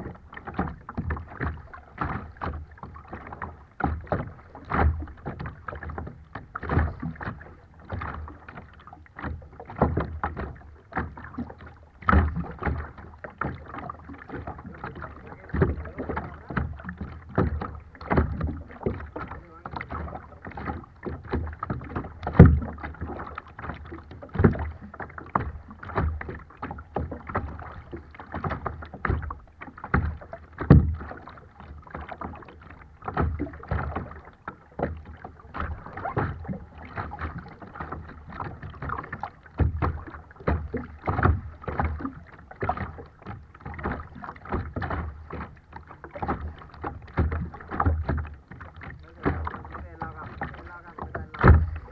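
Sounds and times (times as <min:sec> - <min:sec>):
thumps of bigger waves: 0:00.0 - 0:51.9
waves splashing against kayak hull: 0:00.0 - 0:51.9.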